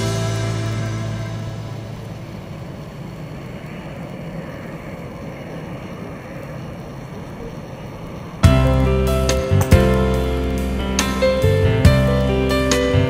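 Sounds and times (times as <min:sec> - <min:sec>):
distant aircraft engines rumbling: 0:00.0 - 0:13.0.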